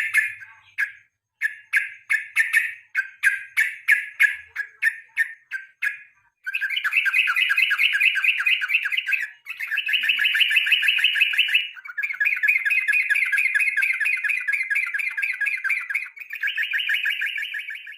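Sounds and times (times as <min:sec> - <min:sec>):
bulbul chattering song: 0:00.0 - 0:17.9.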